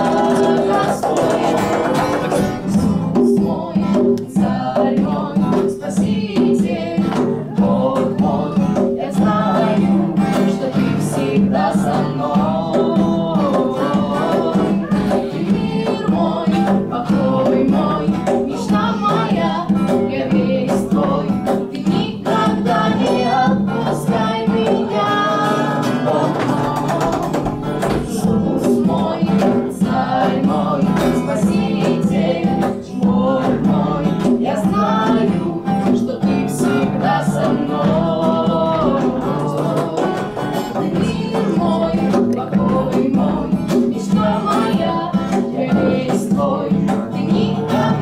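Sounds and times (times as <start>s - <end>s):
group of voices singing: 0.0s - 48.0s
instrumental music with steady beat: 0.0s - 48.0s.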